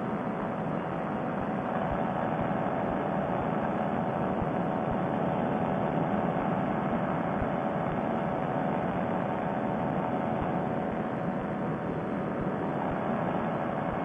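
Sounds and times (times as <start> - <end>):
paramotor engine drone: 0.0 - 14.0.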